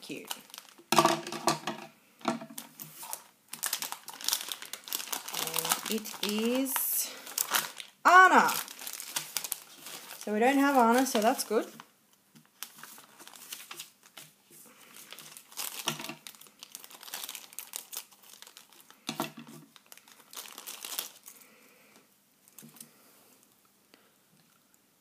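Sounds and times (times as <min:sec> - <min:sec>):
plastic wrapper crinkling: 0:00.0 - 0:21.5.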